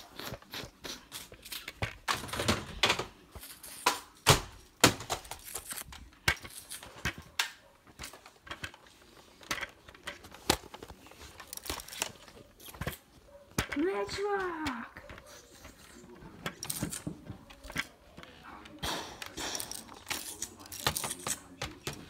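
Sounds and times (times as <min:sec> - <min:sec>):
plastic toys being handled: 0:00.0 - 0:22.0.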